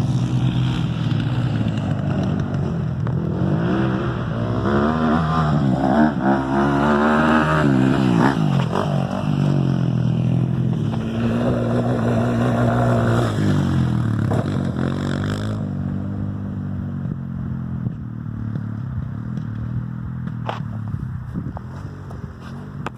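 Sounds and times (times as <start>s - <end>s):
small off-road engine revving: 0.0s - 21.0s.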